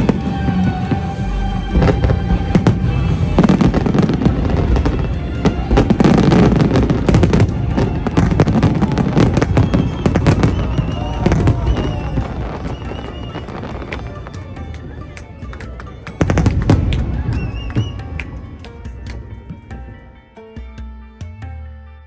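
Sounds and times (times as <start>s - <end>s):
fireworks bangs and crackling: 0.0s - 20.2s
music playing: 0.0s - 22.0s.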